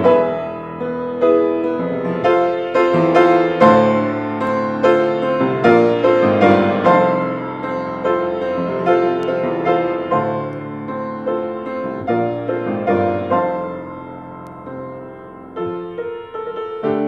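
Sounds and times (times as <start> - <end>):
solo grand piano: 0.0 - 17.0.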